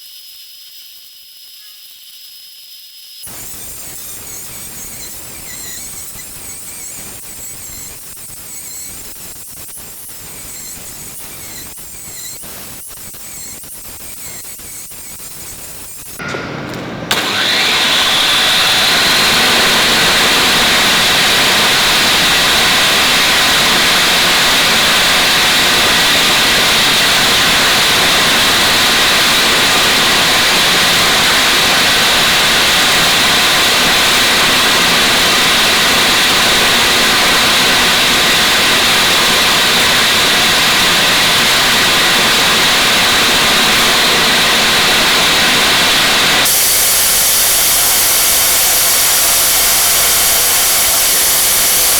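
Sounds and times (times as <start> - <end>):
angle grinder running: 3.3 - 51.9.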